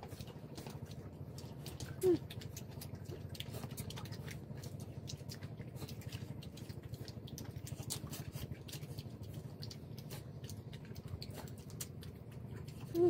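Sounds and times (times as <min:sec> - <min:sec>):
chewing: 0:00.0 - 0:13.0
low steady hum: 0:00.0 - 0:13.0.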